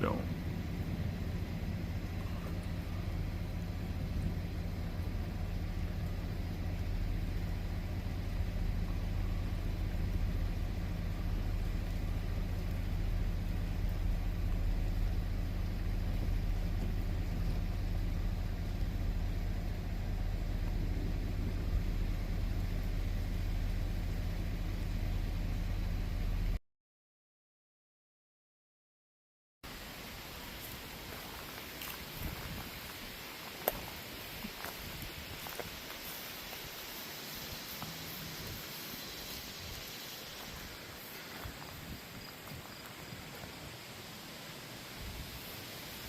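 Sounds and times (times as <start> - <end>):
motor vehicle engine drone: 0.0 - 26.6, 29.7 - 46.0.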